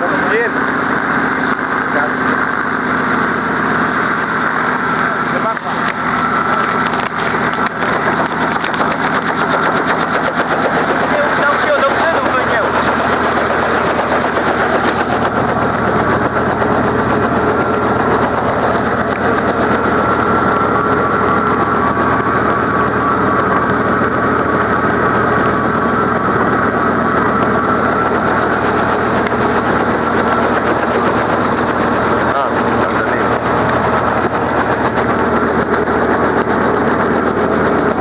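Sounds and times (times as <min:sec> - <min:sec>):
helicopter engine and rotor roar: 0:00.0 - 0:38.0.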